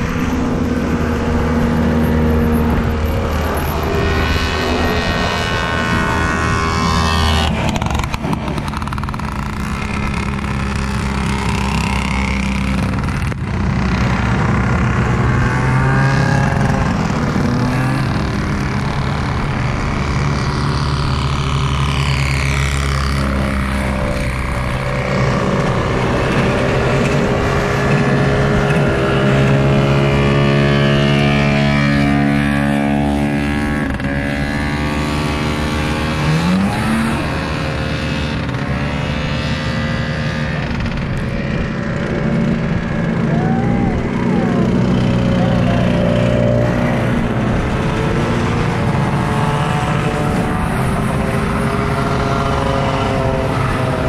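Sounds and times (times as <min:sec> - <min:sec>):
snowmobile engines buzzing past: 0:00.0 - 0:54.0.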